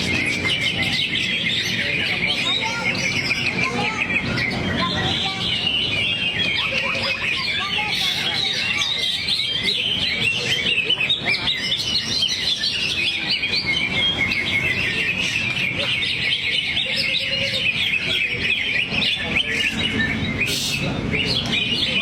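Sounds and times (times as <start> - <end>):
bird singing high chirps and trills: 0.0 - 22.0.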